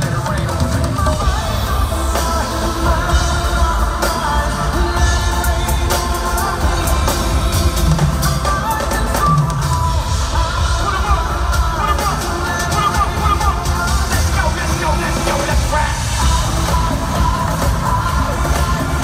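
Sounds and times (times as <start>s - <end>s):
live pop concert music: 0.0s - 19.0s
person singing: 0.0s - 19.0s.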